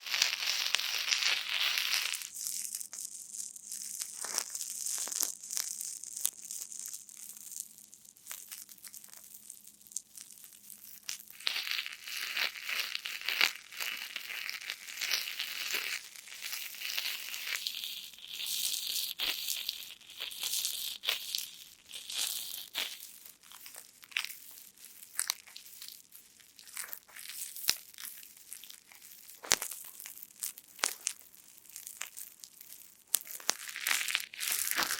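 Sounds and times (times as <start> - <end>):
foam sponges squeezed crackling: 0.0 - 7.5, 10.6 - 34.9.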